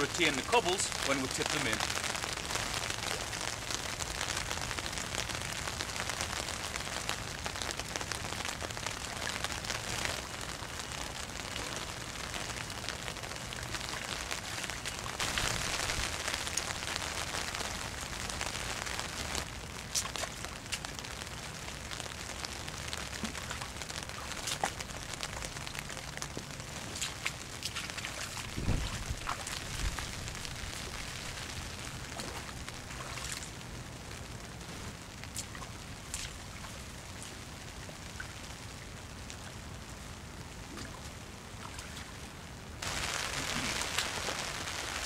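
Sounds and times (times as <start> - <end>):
rain on pond water: 0.0 - 45.0.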